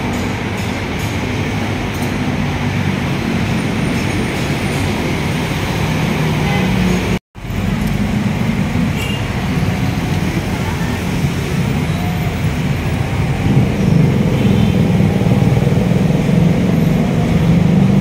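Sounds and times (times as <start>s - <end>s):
city street traffic hum: 0.0s - 18.0s.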